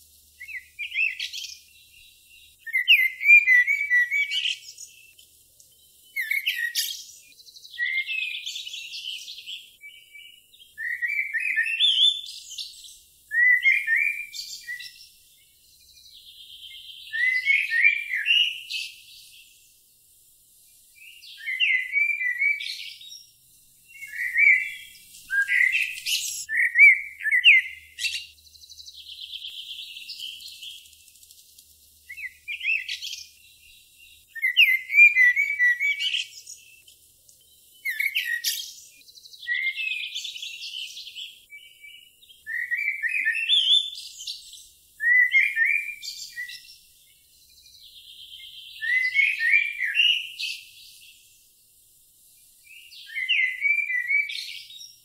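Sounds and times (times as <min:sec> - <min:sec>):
songbird chirping with buzzy trill: 0:00.0 - 0:55.0.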